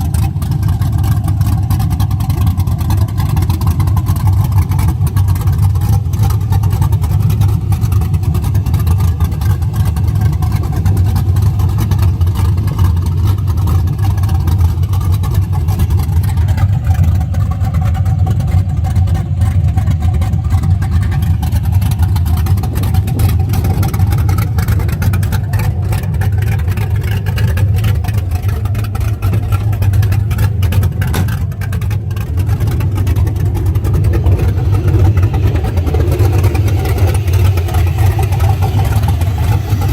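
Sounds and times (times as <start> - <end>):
lumpy engine idling: 0.0 - 39.9.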